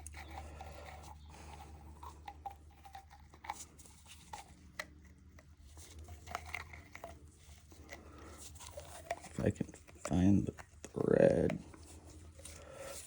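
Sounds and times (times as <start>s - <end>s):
pipe fitting clicks and scrapes: 0.0s - 13.0s.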